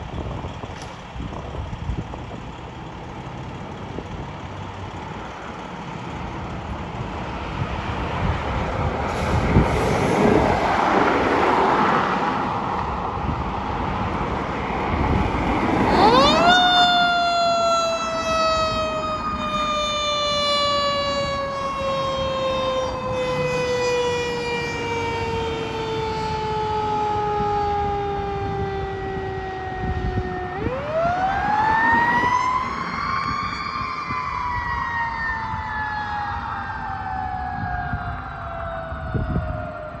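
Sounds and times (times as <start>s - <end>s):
fire engine siren: 4.8s - 40.0s.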